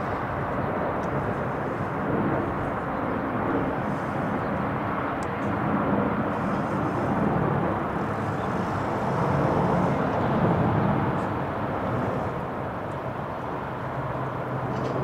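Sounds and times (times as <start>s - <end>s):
jet airliner flying overhead: 0.0s - 15.0s.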